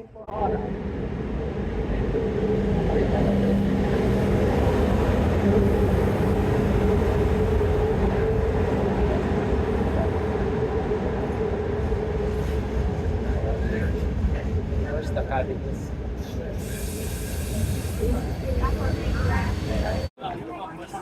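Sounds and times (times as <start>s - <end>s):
train rumbling and droning: 0.0s - 20.1s.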